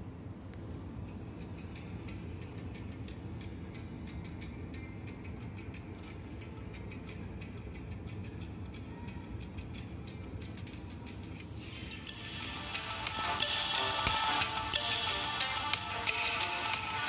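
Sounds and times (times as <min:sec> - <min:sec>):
thin electronic music from earbuds: 0:00.0 - 0:17.0.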